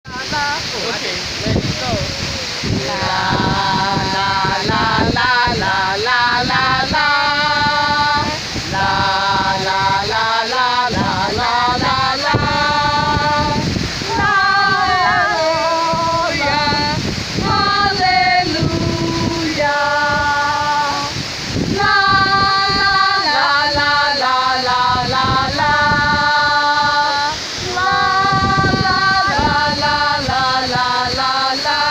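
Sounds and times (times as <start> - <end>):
steady rushing noise: 0.1 - 31.9
woman singing slow melody: 2.7 - 31.9.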